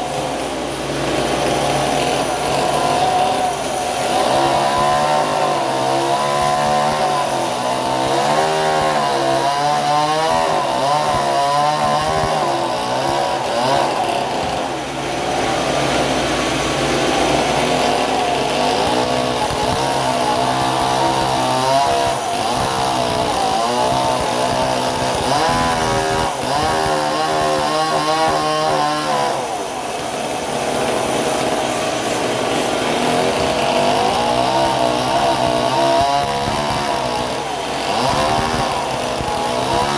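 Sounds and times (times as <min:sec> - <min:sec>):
petrol saw cutting timber: 0:00.0 - 0:39.9.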